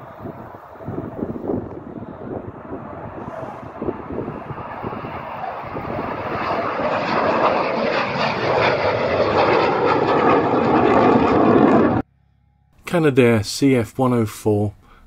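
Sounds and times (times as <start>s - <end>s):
jet fighter engine roaring: 0.0s - 12.1s.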